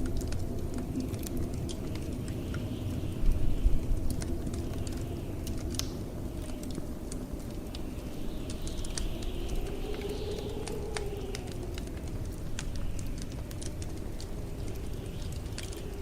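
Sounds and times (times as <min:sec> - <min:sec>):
blizzard wind rumble: 0:00.0 - 0:16.0
fireplace fire crackling: 0:00.0 - 0:16.0
wind howling: 0:00.0 - 0:16.0.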